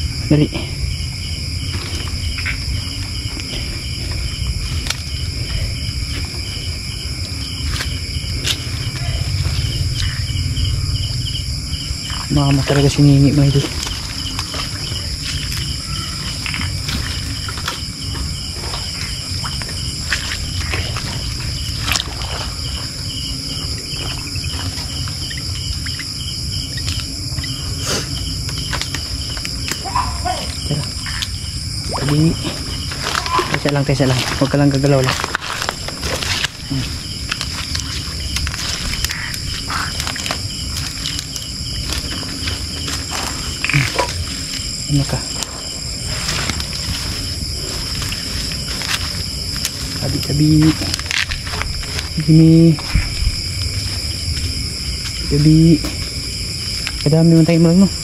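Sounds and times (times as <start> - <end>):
crickets trilling: 0.0 - 58.0
low rumbling noise: 0.0 - 58.0
pulsing insect call: 0.0 - 58.0.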